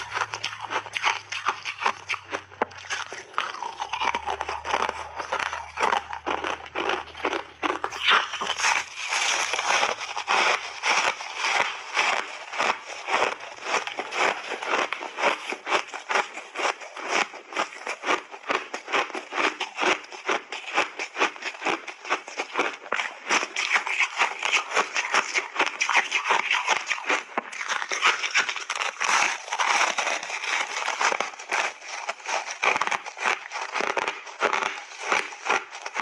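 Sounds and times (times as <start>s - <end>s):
crunching and chewing ice: 0.0s - 36.0s.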